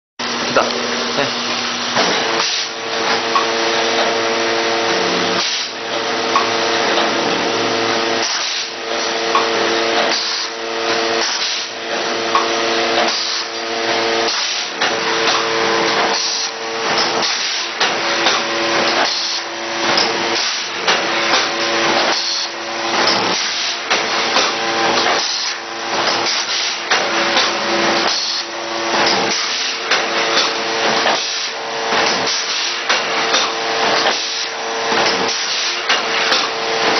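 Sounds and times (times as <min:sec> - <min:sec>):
machine whirring with low hum: 0:00.2 - 0:36.9.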